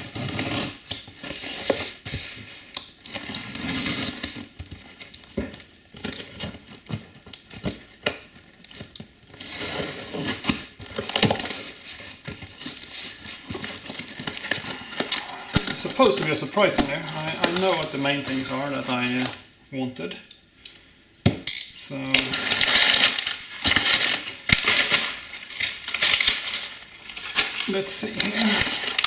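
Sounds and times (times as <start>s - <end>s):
packing tape tearing: 0.0s - 5.3s, 6.0s - 19.5s, 21.5s - 29.0s
packing paper rustling: 0.0s - 19.5s, 22.0s - 29.0s.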